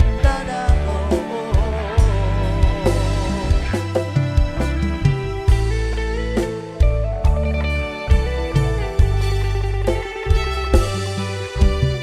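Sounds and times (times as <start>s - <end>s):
drum beats: 0.0s - 12.0s
guitar melody: 0.0s - 12.0s
heavy bass: 0.0s - 12.0s.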